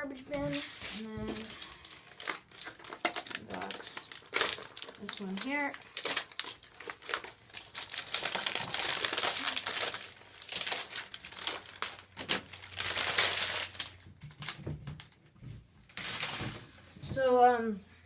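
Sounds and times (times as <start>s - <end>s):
plastic packaging crinkling: 0.3s - 15.2s, 15.9s - 16.8s.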